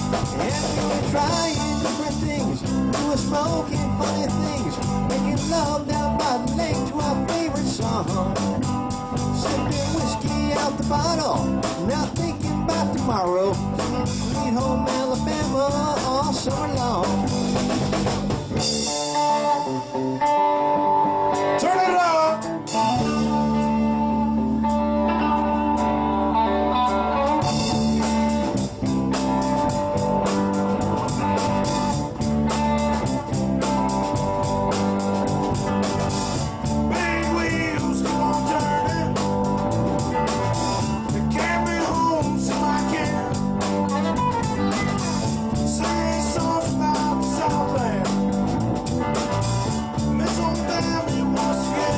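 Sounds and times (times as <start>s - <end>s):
steady drum beat: 0.0s - 19.6s, 27.4s - 51.9s
bass: 0.0s - 51.9s
electric guitar lead lines: 0.0s - 51.9s.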